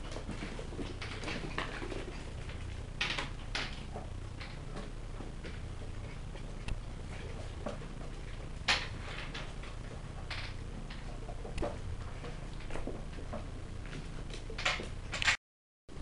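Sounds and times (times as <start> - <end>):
faint low hum: 0.0 - 15.3.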